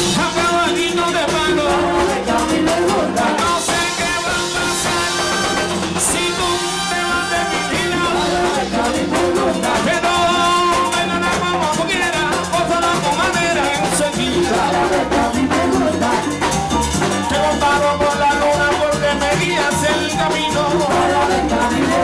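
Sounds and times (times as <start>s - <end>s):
congas: 0.0s - 22.0s
drum kit: 0.0s - 22.0s
hand frame drums: 0.0s - 22.0s
lead singer singing: 0.0s - 22.0s.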